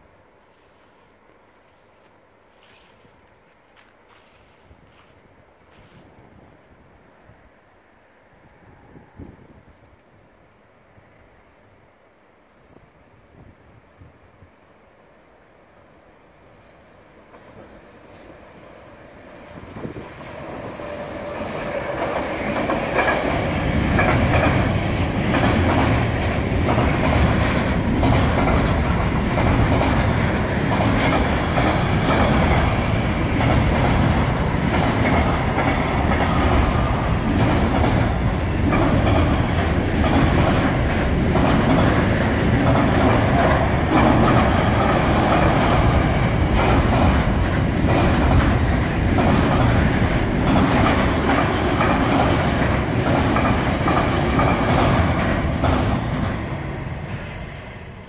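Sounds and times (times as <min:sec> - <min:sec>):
train wheels rumbling on rails: 0:00.0 - 0:06.6, 0:16.5 - 0:58.0.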